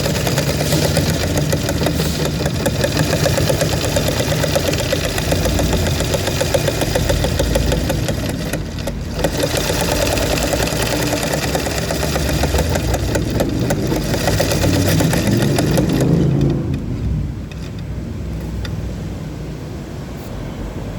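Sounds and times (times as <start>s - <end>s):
sewing machine stitching: 0.0s - 18.8s.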